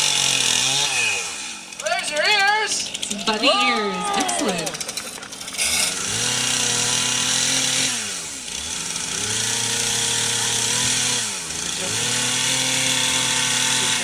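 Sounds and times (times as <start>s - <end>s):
chainsaw carving wood: 0.0s - 14.0s.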